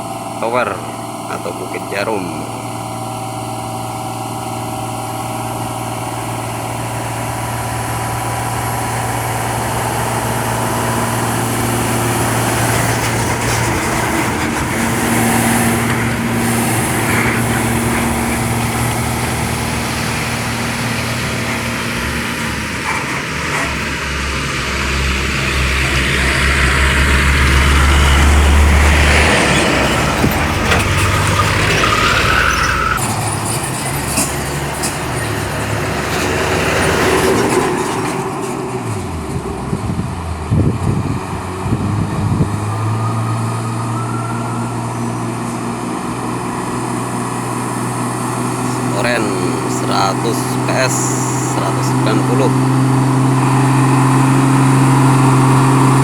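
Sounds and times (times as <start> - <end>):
diesel truck engine labouring: 0.0 - 56.0.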